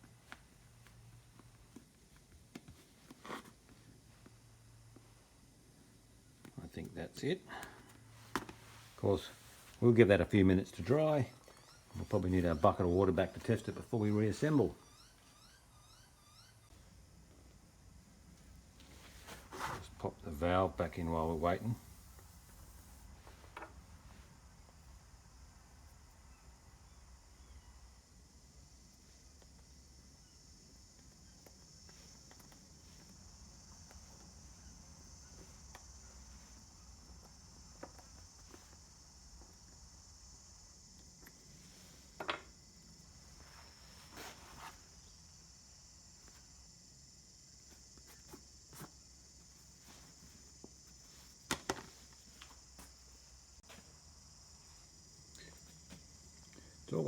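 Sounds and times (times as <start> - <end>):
insect chirring: 8.8 - 19.1, 20.0 - 57.0.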